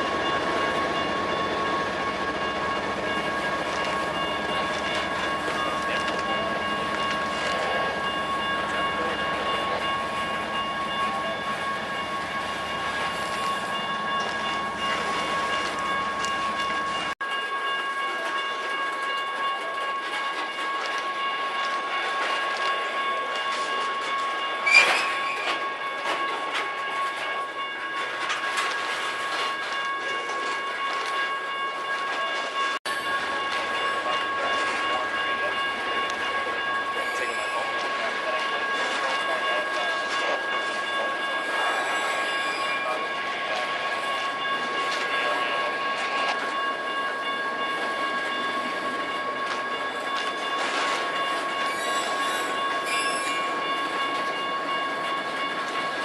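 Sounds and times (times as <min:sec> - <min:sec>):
freight train rolling on rails: 0:00.0 - 0:56.0.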